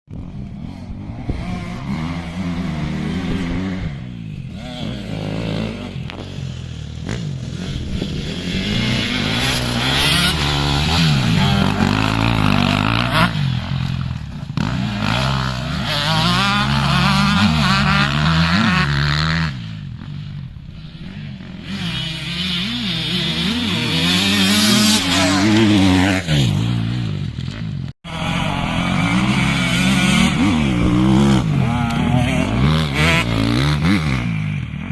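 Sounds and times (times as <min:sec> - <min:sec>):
motocross bike engines revving: 0:00.1 - 0:34.9.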